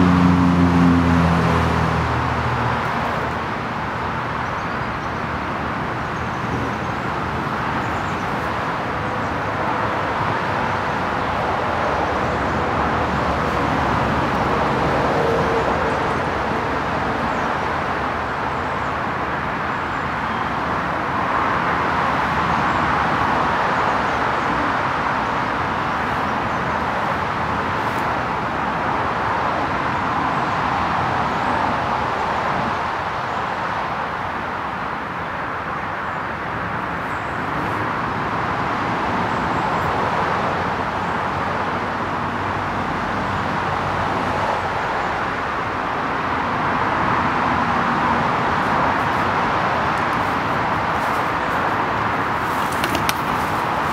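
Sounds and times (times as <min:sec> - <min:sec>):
road traffic hum: 0:00.0 - 0:53.9.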